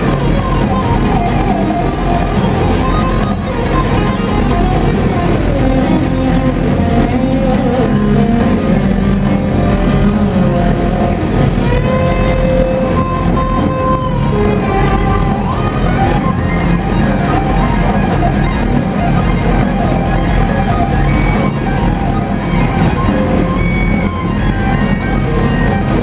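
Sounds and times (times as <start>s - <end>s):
bending held notes: 0.0s - 26.0s
rock band playing loudly: 0.0s - 26.0s
steady drum beat: 0.0s - 26.0s.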